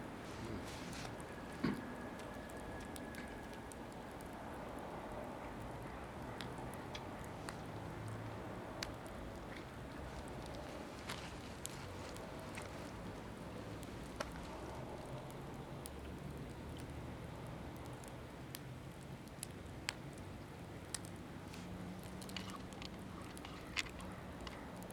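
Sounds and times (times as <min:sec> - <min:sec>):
fire low rush: 0:00.0 - 0:23.2
wood fire popping and crackling: 0:00.0 - 0:24.9.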